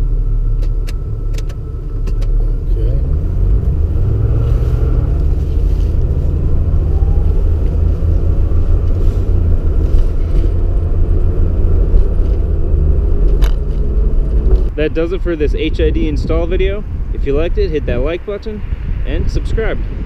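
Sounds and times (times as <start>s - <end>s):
engine and road noise rumble: 0.0s - 20.0s.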